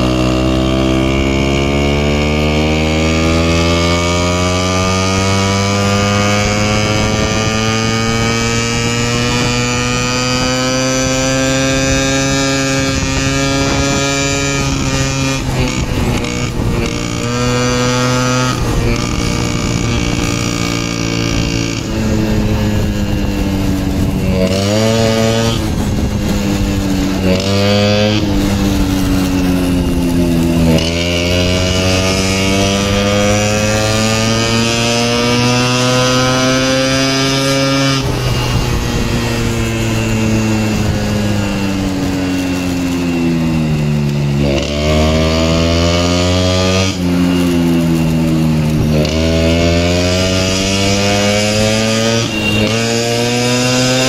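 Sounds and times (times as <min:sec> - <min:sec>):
small motorbike engine revving: 0:00.0 - 0:54.0.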